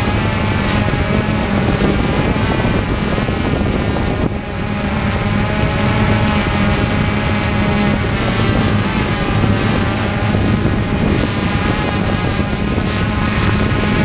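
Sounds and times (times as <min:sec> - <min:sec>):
propeller aircraft in flight: 0:00.0 - 0:14.0.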